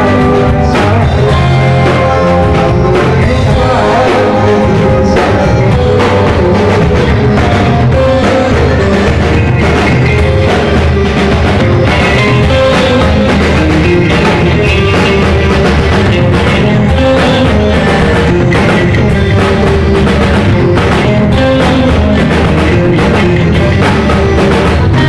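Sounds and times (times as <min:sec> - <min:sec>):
drum kit with crashing cymbals: 0:00.0 - 0:25.0
electric bass guitar: 0:00.0 - 0:25.0.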